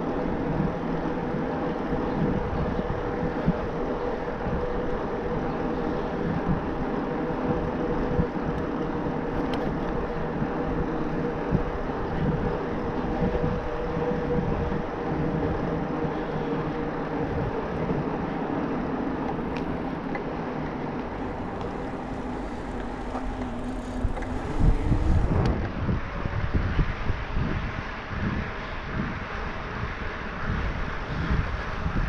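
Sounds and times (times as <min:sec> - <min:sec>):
electric bike motor humming: 0:00.0 - 0:32.0
wind rumbling on microphone: 0:00.0 - 0:32.0.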